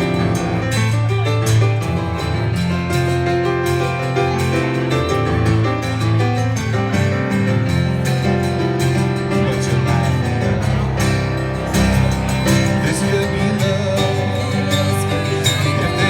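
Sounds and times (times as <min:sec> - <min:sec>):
guitars: 0:00.0 - 0:16.0
live band playing: 0:00.0 - 0:16.0.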